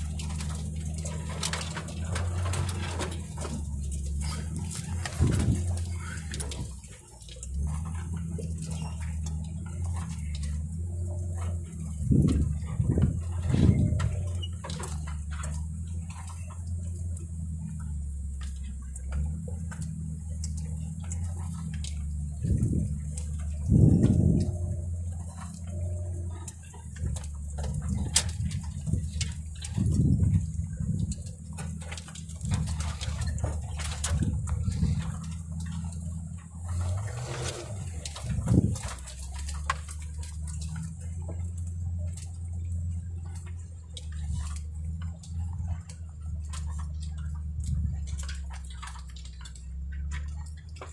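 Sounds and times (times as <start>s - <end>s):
light clicks and ticks: 0.0s - 50.9s
truck engine low drone: 0.0s - 50.9s
twigs scratching truck body: 0.0s - 50.9s.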